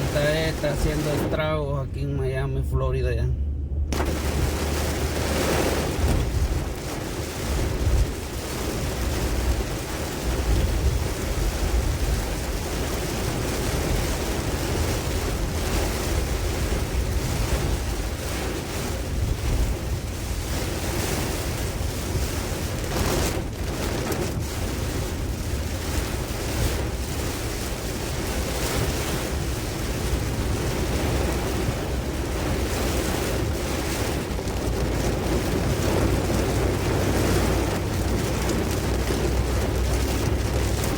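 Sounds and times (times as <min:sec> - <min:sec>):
gusting wind: 0:00.0 - 0:02.0, 0:03.2 - 0:40.9
wind rumbling on microphone: 0:00.0 - 0:40.9.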